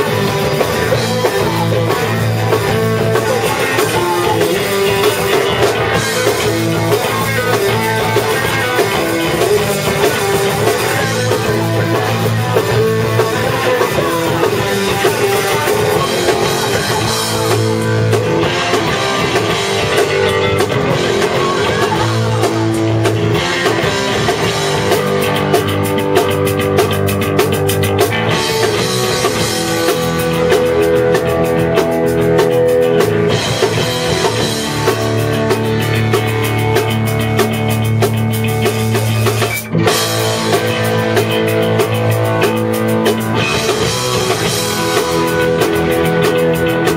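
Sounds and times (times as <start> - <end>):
drum kit: 0.0 - 46.9
electric guitar: 0.0 - 46.9.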